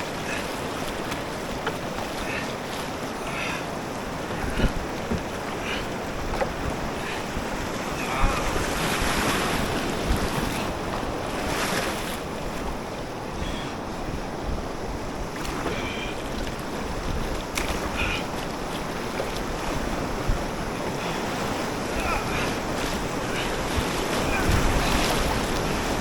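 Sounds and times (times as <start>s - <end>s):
river water rushing: 0.0s - 26.0s
wind buffeting microphone: 3.0s - 26.0s.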